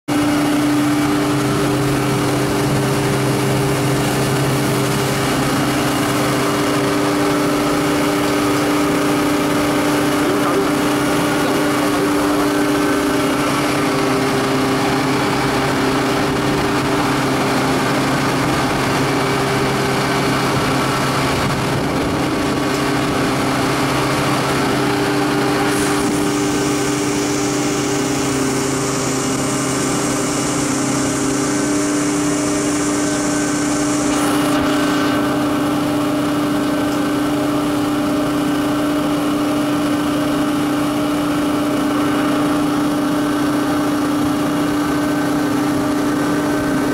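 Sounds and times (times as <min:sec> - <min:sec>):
machinery humming with held tones: 0:00.1 - 0:46.9.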